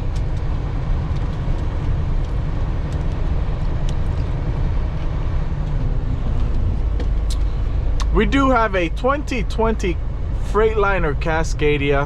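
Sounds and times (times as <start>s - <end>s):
road noise inside cab: 0.0s - 12.0s
truck engine rumble: 0.0s - 12.0s.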